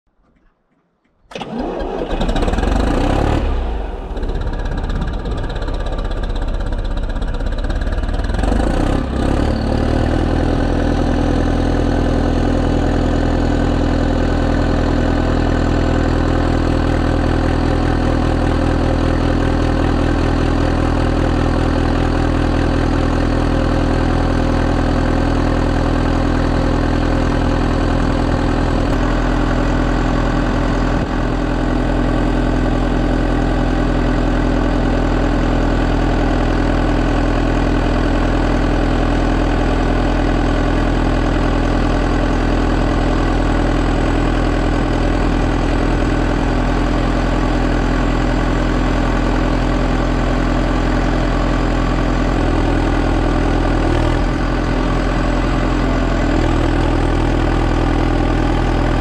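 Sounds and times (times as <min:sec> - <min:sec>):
diesel engine idling: 0:01.3 - 0:59.0.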